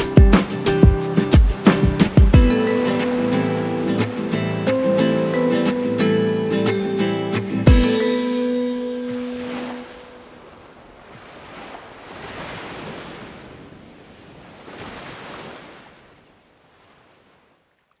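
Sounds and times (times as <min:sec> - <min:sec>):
sea waves washing in: 0:00.0 - 0:17.5.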